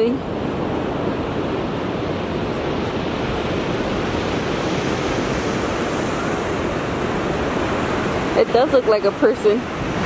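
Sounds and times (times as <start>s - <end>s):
ocean surf breaking: 0.0s - 10.0s
wind on microphone: 0.0s - 10.0s.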